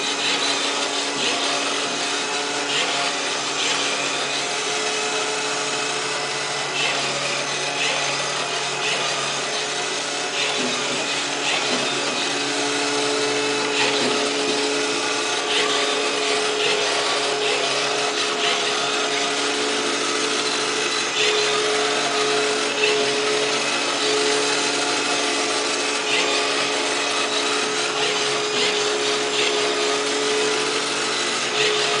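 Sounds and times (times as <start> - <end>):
robot cleaner motor hum: 0.0 - 32.0.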